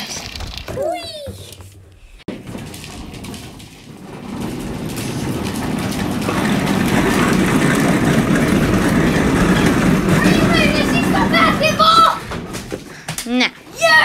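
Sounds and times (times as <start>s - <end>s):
plastic wheels rolling on concrete: 0.0s - 14.0s.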